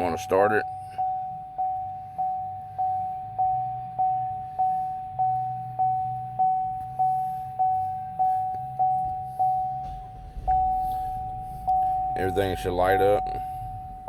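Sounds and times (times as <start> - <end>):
dashboard warning chime dinging: 0.0 - 14.0.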